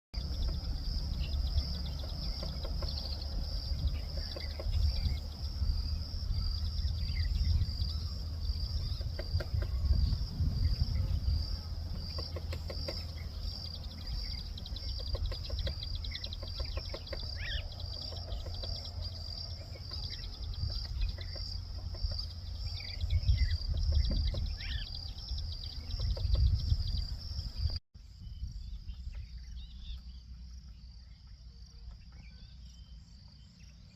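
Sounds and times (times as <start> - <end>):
low rumble: 0.2 - 31.0
bird calls: 0.2 - 33.9
insects chirring: 0.2 - 33.9.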